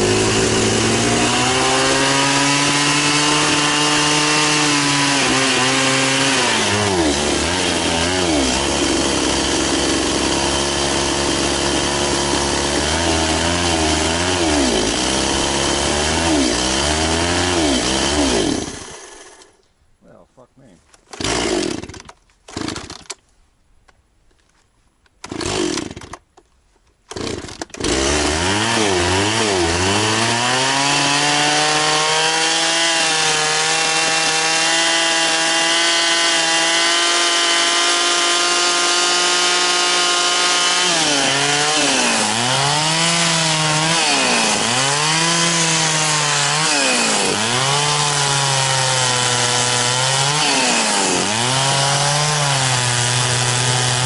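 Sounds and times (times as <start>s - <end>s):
chainsaw starting and running: 0.0s - 19.6s, 21.1s - 23.2s, 25.2s - 26.3s, 27.1s - 54.0s.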